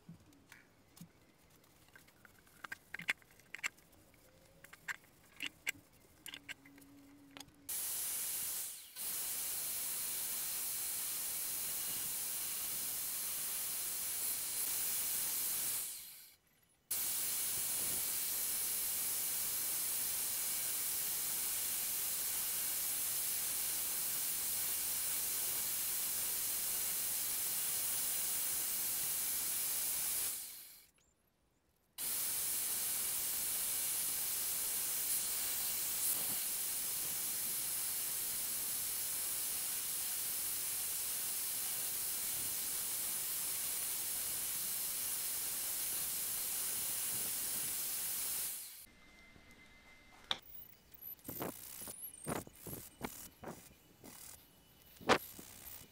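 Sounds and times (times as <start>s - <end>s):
power drill hissing whir: 7.7s - 30.9s, 32.0s - 48.9s, 50.4s - 55.9s.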